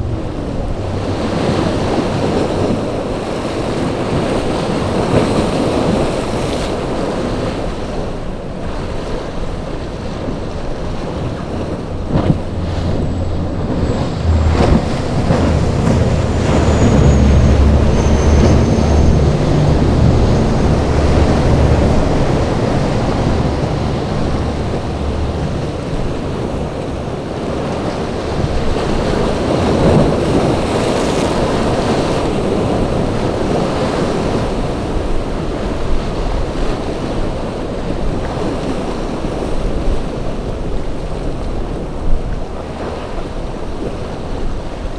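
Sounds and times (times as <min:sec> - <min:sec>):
boat engine droning: 0:00.0 - 0:44.9
rough surf and choppy water: 0:00.0 - 0:44.9
wind buffeting microphone: 0:00.0 - 0:44.9.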